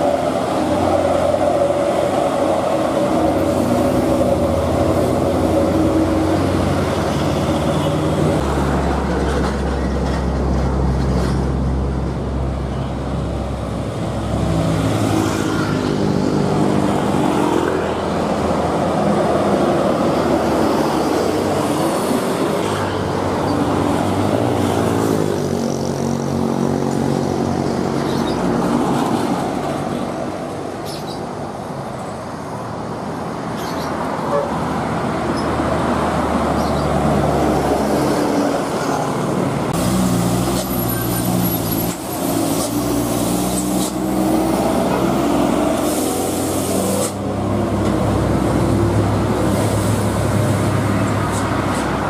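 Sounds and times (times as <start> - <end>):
bus and car engines passing: 0.0 - 52.0.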